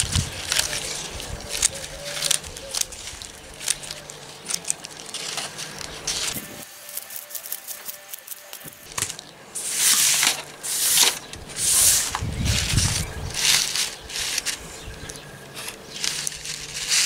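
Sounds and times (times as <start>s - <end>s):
straw rustling and crackling: 0.0s - 17.0s.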